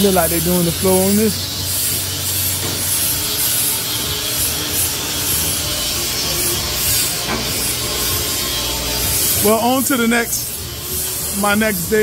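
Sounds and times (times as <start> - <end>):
tool rasping over a surface: 0.0 - 12.0.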